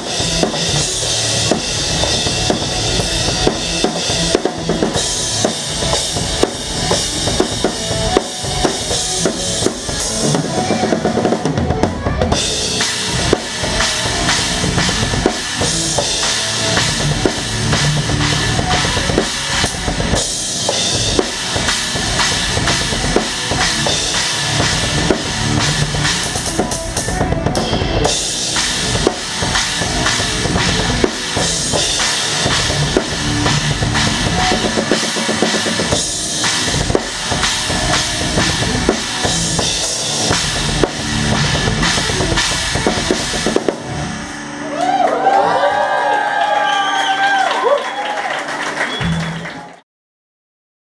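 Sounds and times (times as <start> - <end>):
bass drum: 0.0 - 44.1
rock band playing: 0.0 - 47.8.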